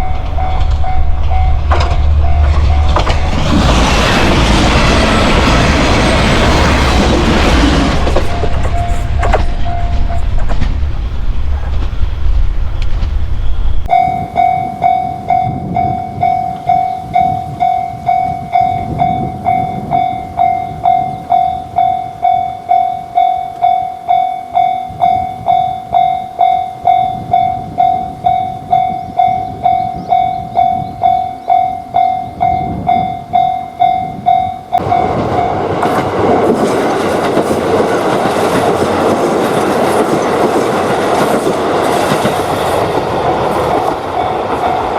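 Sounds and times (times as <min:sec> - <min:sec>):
railroad crossing bell ringing: 0:00.0 - 0:36.2, 0:37.9 - 0:44.9
train rumbling and clattering past: 0:00.0 - 0:44.9.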